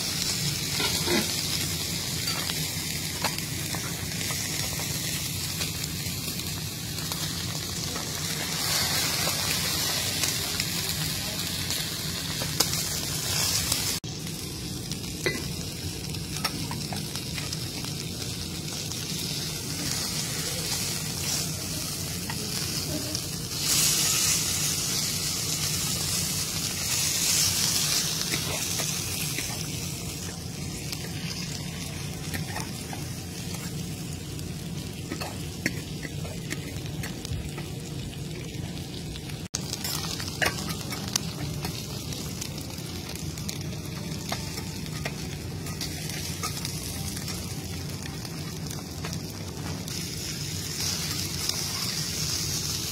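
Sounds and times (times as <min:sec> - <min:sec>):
steaks sizzling on a griddle: 0:00.0 - 0:52.9.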